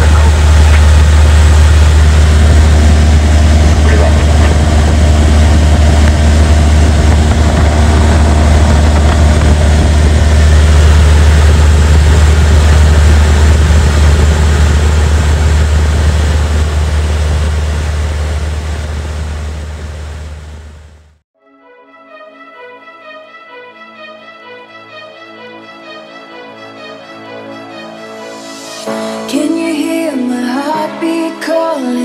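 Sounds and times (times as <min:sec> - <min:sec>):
propeller aircraft engine drone: 0:00.0 - 0:21.2, 0:21.9 - 0:29.3.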